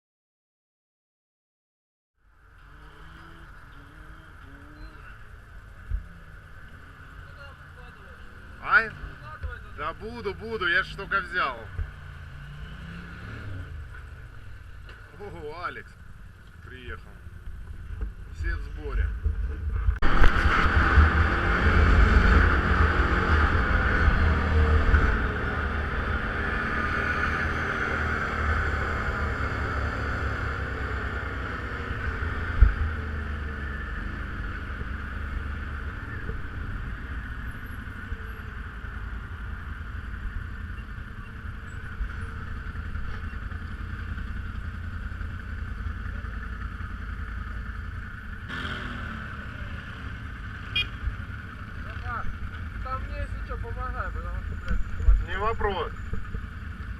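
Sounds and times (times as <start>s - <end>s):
all-terrain vehicle engine: 2.2s - 56.9s.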